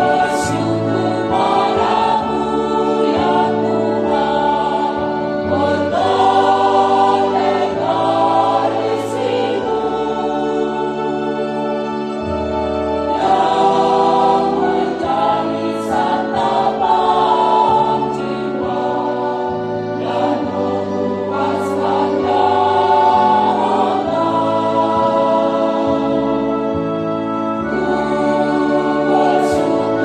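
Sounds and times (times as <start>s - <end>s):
church choir singing a hymn: 0.0s - 30.0s.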